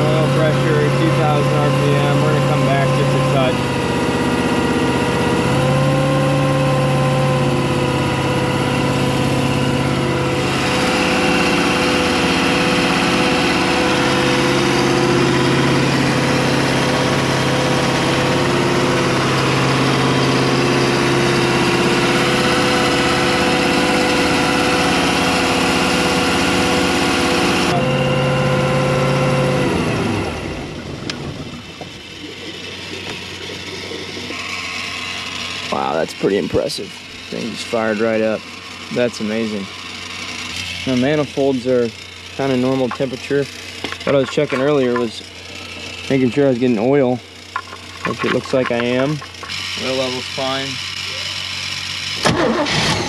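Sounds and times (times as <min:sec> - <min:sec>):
boat engine running at fast idle: 0:00.0 - 0:53.0.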